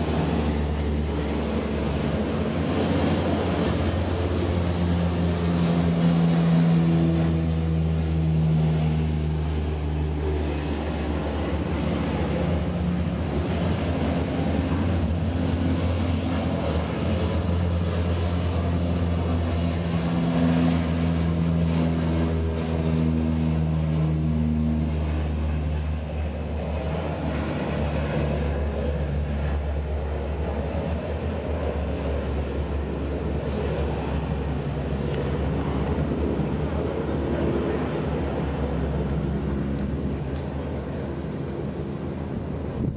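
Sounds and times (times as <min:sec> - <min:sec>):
propeller planes droning: 0:00.0 - 0:42.9.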